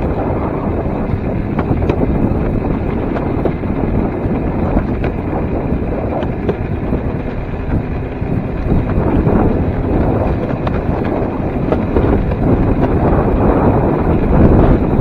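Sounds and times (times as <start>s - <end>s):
steel wheels rolling on track: 0.0s - 15.0s
wind buffeting microphone: 0.0s - 15.0s.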